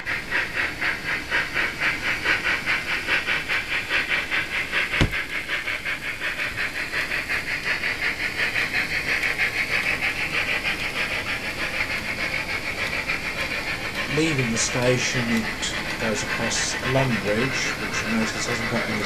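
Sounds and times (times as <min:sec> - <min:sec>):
recorded steam locomotive chuffing: 0:00.0 - 0:19.0.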